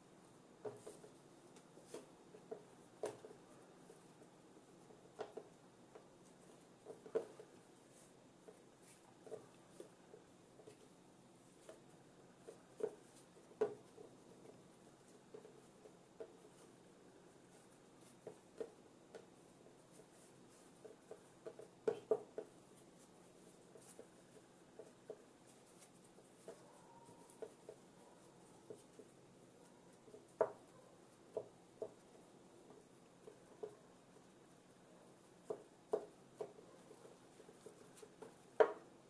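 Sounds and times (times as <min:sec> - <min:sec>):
hands tapping and rubbing dough: 0:00.5 - 0:39.0.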